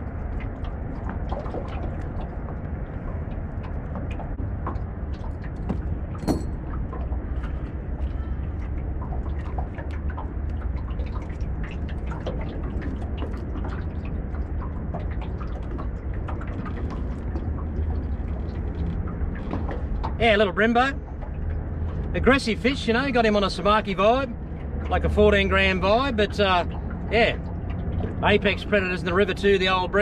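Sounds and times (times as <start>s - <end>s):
low rumble: 0.0s - 30.0s
water clicks and drips: 0.0s - 30.0s.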